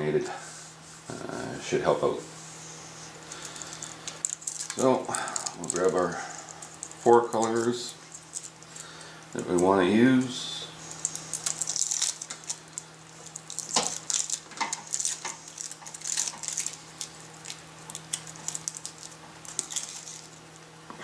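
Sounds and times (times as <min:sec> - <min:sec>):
steady low hum: 0:00.0 - 0:21.0
wire rustling and crinkling: 0:02.4 - 0:20.7.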